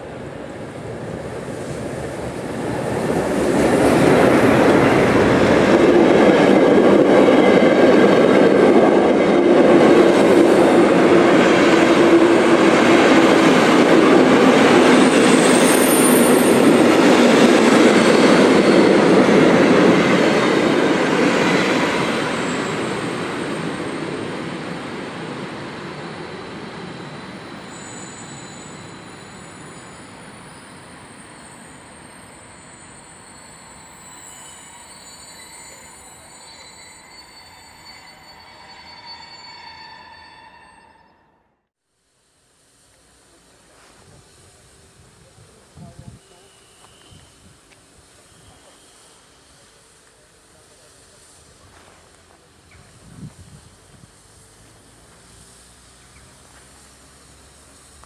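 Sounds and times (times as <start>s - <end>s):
steam train passing: 0.0s - 58.0s.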